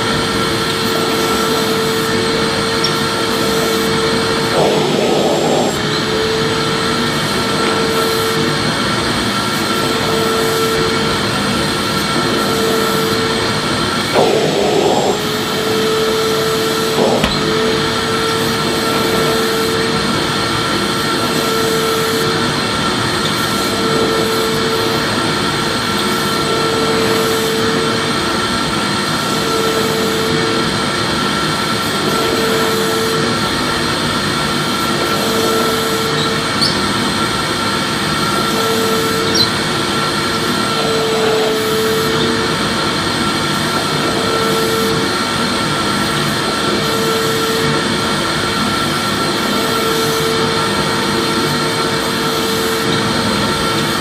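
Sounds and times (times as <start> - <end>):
vacuum cleaner motor running: 0.0 - 54.0.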